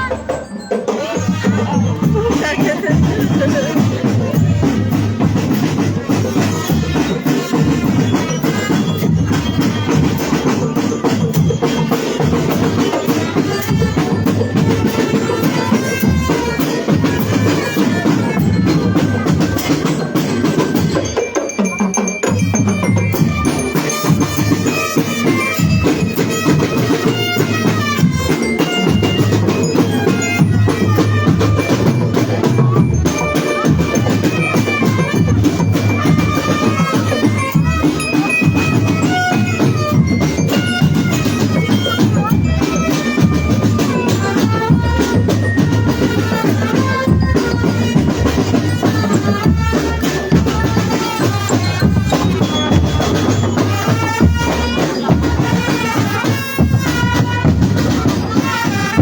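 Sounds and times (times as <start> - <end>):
high melody line: 0.0 - 59.0
marching drum band playing: 0.0 - 59.0.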